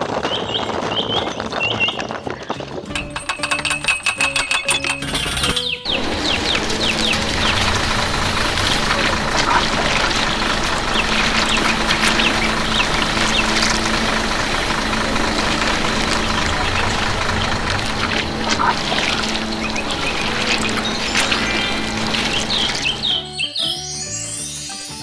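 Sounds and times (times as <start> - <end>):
dense noisy background: 0.0 - 23.3
engine humming: 2.9 - 23.4.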